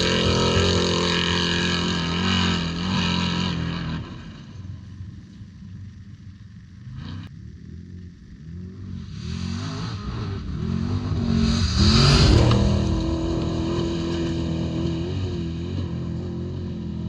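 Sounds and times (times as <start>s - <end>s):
engine revving as vehicle passes: 0.0s - 4.9s, 6.8s - 17.0s.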